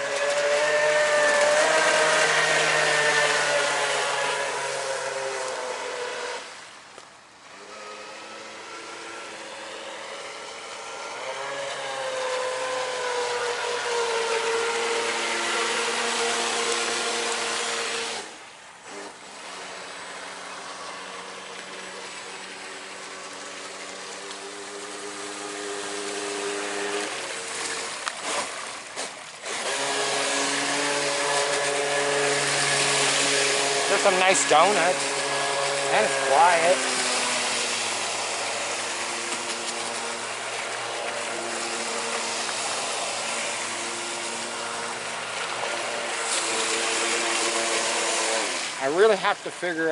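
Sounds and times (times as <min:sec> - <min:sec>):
electric motor whining: 0:00.0 - 0:06.8, 0:07.5 - 0:49.9.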